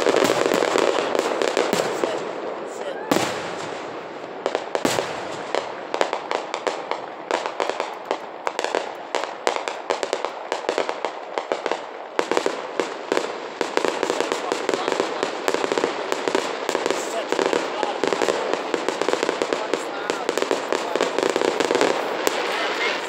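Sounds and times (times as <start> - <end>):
fireworks crackling and popping: 0.0 - 23.0
loud firework bangs: 0.0 - 23.0.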